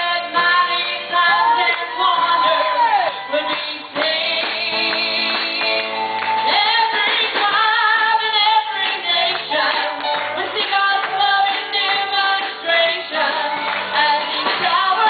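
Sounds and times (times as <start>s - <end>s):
instrumental accompaniment: 0.0s - 15.0s
woman singing gospel: 0.0s - 15.0s.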